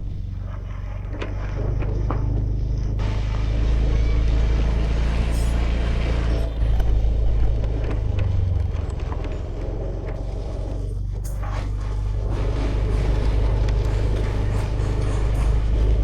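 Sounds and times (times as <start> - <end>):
scooter engine running: 0.0 - 16.0
wind and road noise: 0.0 - 16.0.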